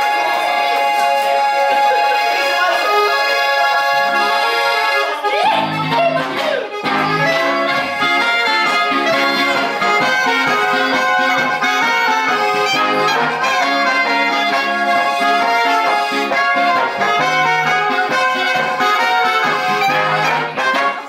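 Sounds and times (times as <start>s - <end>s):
accordion playing chords: 0.0s - 21.0s
low accordion bass notes: 0.0s - 21.0s.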